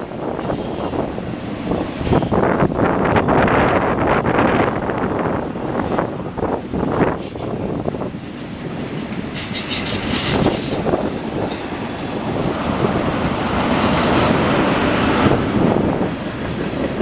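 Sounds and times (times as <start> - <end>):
freight train rolling on rails: 0.0 - 17.0.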